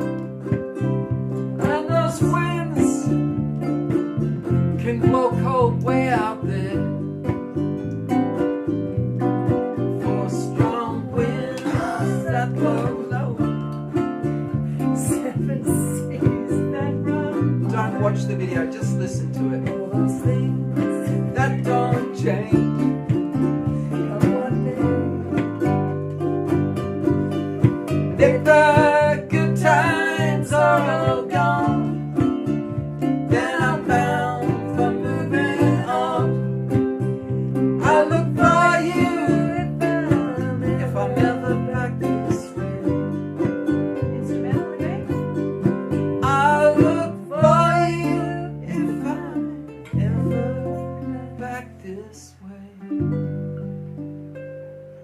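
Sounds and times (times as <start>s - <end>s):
strummed acoustic guitar chords: 0.0s - 52.0s
improvised guitar lead line: 0.0s - 55.0s.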